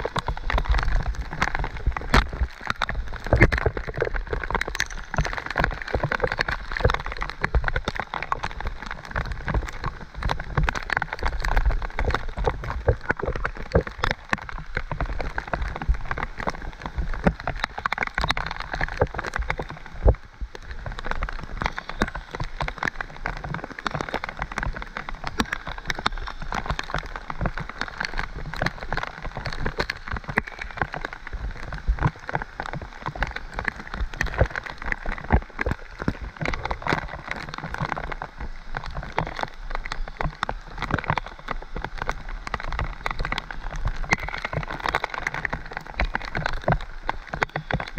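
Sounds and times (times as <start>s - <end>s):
bike rolling on muddy trail: 0.0s - 47.9s
raindrops ticking on helmet camera: 0.0s - 47.9s
steady rain hiss: 0.0s - 47.9s.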